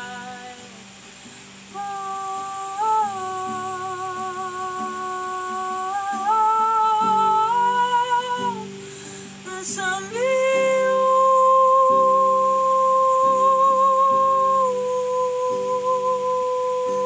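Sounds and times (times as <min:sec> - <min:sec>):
woman humming long held notes: 0:00.0 - 0:17.0.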